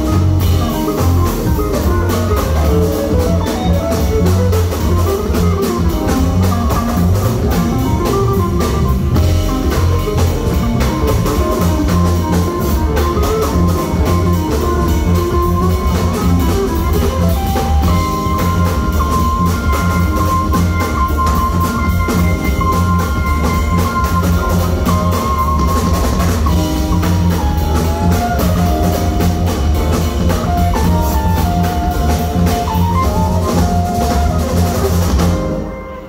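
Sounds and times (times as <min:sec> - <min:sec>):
live band playing: 0:00.0 - 0:36.0.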